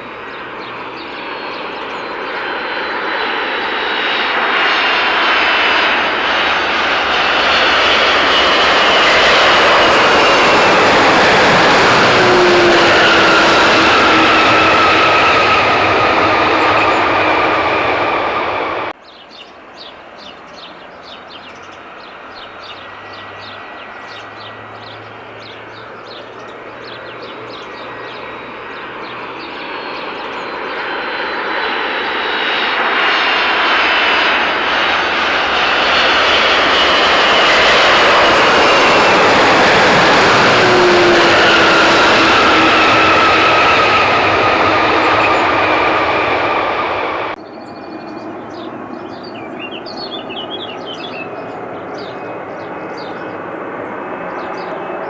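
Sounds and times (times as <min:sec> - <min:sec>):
aircraft approaching: 0:00.0 - 0:55.0
airliner engines passing: 0:00.0 - 0:55.0.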